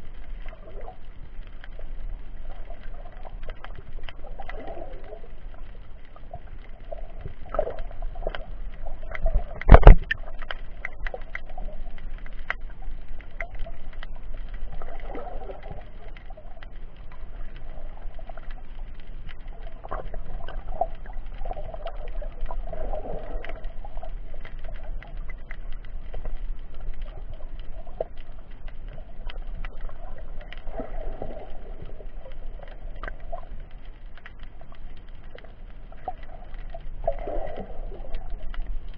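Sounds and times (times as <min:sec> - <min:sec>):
dull underwater swells: 0:00.0 - 0:38.9.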